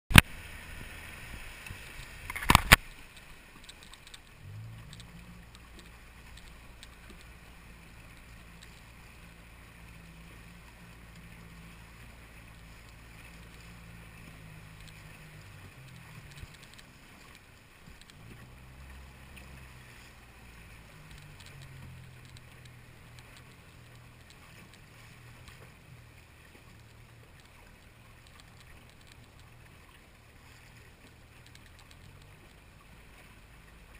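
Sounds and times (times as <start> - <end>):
faint water noise: 0.1 - 33.9
outboard motor running: 0.1 - 33.9.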